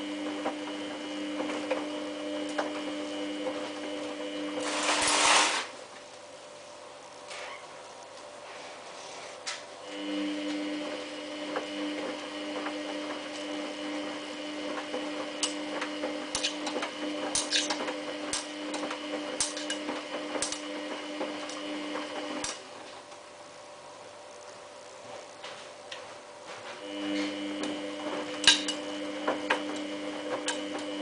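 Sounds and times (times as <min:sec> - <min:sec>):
washing machine motor humming: 0:00.0 - 0:31.0.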